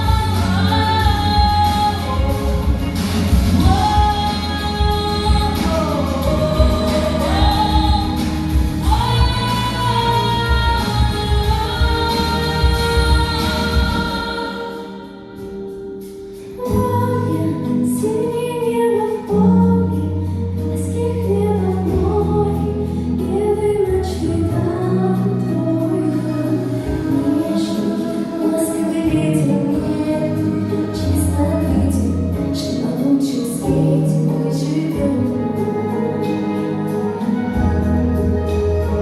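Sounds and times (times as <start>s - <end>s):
girl singing pop song: 0.0s - 39.0s
musical accompaniment: 0.0s - 39.0s.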